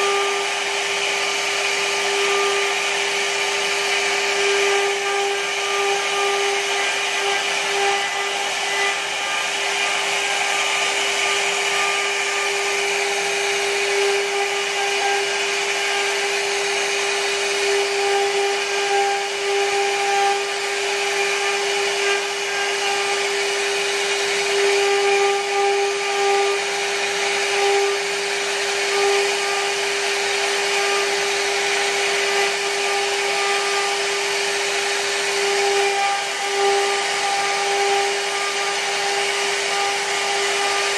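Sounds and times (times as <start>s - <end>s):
hiss of wood being cut: 0.0s - 40.9s
router spindle whine: 0.0s - 40.9s.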